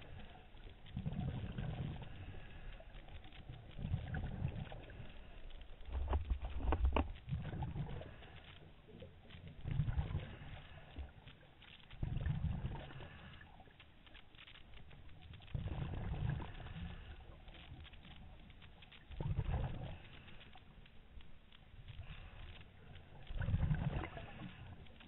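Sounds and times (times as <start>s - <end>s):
underwater exhaled bubbles gurgling: 0.0s - 13.8s, 15.0s - 20.8s, 21.8s - 25.0s
faint clicking: 0.0s - 25.0s.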